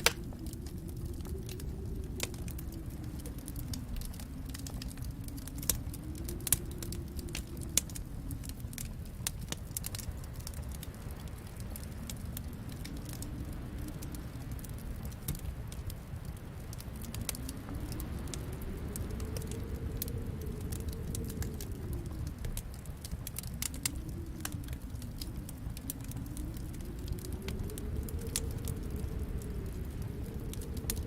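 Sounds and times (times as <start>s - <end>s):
wind howling: 0.0s - 31.0s
wood fire crackling and popping: 0.0s - 31.0s.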